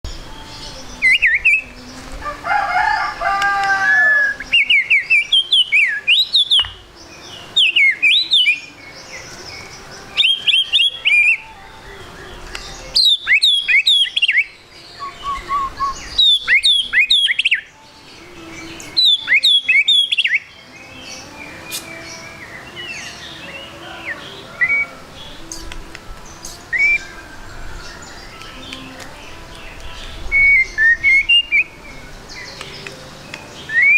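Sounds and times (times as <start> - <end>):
bird singing: 0.0 - 33.9.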